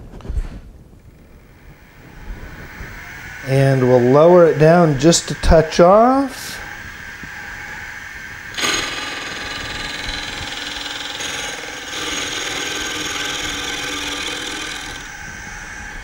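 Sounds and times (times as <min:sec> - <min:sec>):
milling machine cutting metal: 0:01.4 - 0:16.0.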